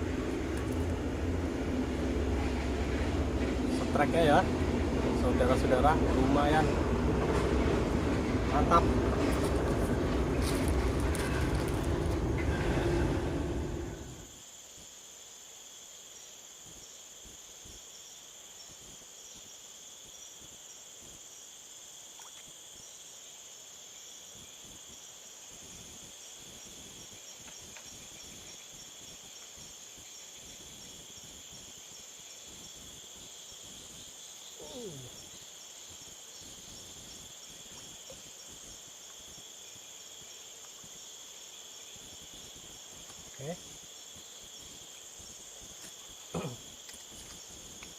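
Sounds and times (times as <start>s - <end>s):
crickets shrilling: 0.0s - 47.9s.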